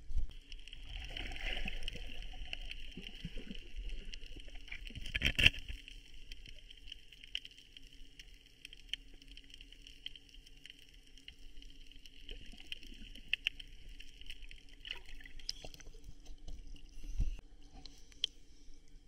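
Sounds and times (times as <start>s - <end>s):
water splashing and dripping: 0.6s - 5.5s, 6.1s - 16.8s.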